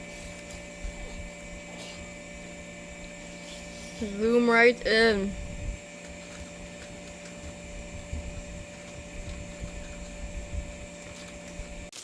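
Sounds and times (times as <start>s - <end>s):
machine hum with constant whine: 0.0s - 12.0s.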